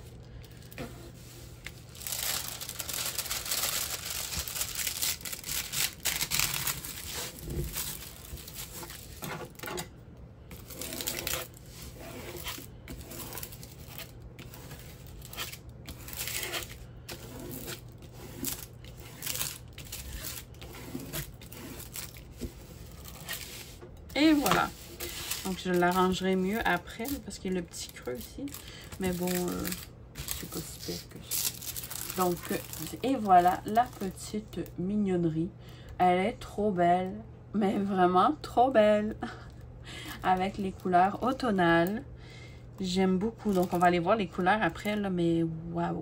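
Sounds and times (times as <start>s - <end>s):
plastic film crinkling under scraping: 0.0s - 9.9s, 10.5s - 34.8s, 40.1s - 42.0s, 42.8s - 45.0s.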